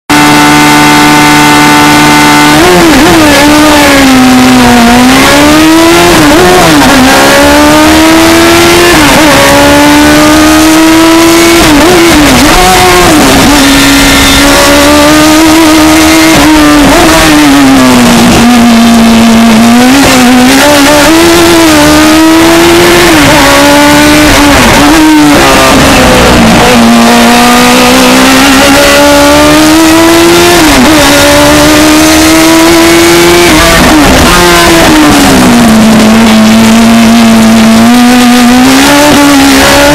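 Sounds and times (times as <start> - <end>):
race car engine accelerating: 0.1 - 39.9.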